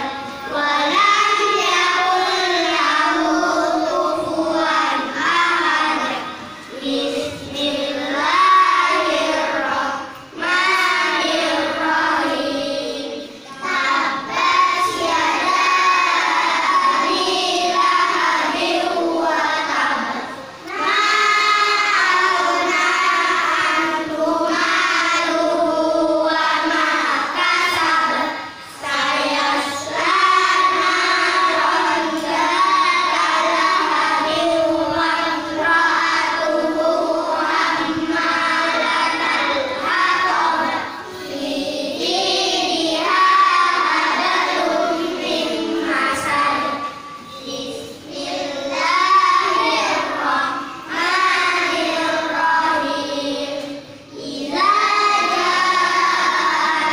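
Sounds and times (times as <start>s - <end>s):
children chanting in unison: 0.0s - 56.9s.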